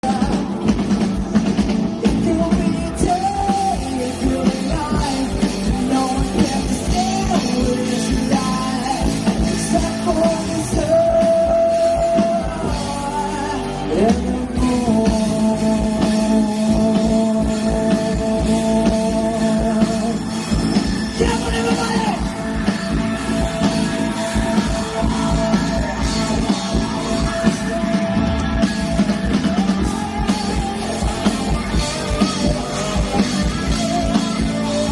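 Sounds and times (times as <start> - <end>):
lead melody sliding up: 0.0 - 34.9
live rock band playing: 0.0 - 34.9.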